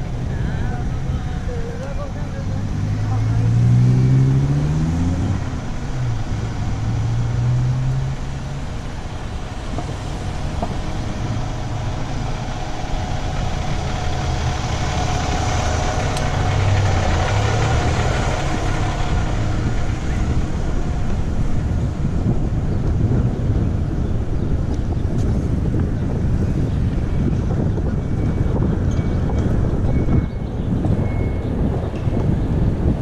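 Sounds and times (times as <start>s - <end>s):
road noise: 0.0s - 33.0s
vehicle engine humming: 0.0s - 33.0s
wind rushing: 2.6s - 33.0s.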